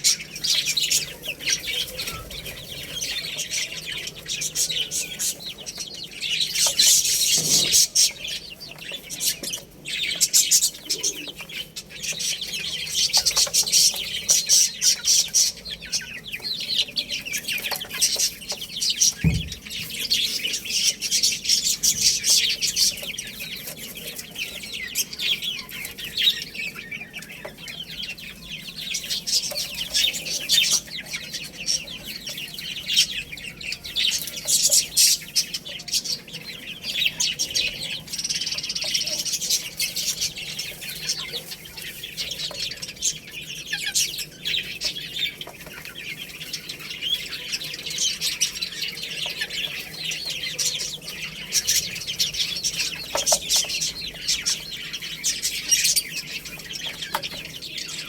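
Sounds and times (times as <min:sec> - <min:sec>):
baby chicks chirping: 0:00.0 - 0:58.0.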